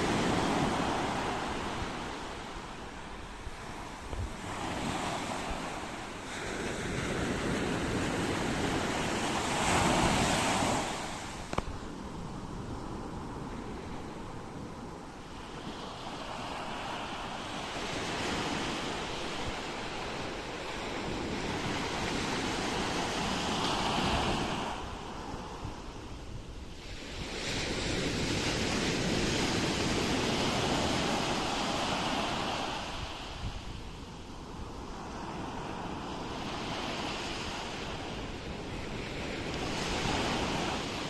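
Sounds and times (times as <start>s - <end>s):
ocean waves rushing in: 0.0s - 41.0s.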